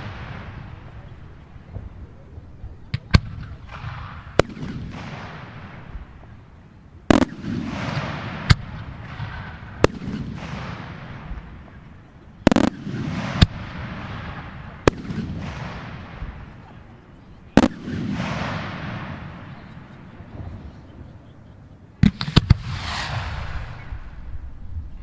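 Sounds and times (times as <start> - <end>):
firework bangs: 0.0 - 20.7, 22.0 - 24.4.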